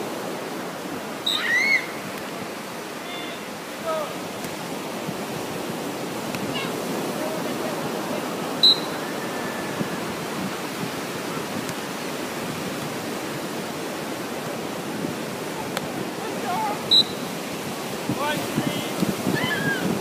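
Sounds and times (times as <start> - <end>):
ocean surf: 0.0 - 20.0
wind noise: 0.0 - 20.0.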